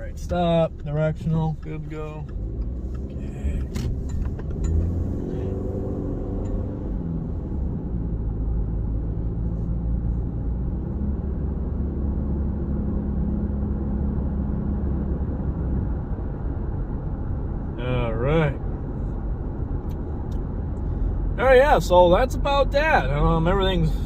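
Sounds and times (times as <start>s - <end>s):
car engine rumble: 0.0s - 24.0s
road noise: 0.0s - 24.0s.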